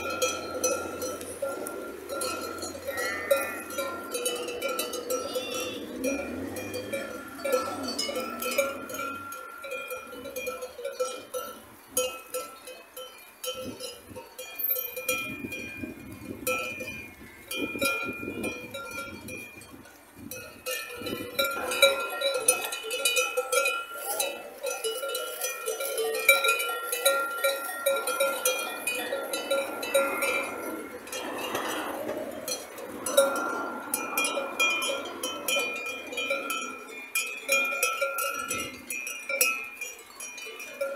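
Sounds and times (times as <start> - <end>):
sheep bells clanking: 0.0 - 40.9.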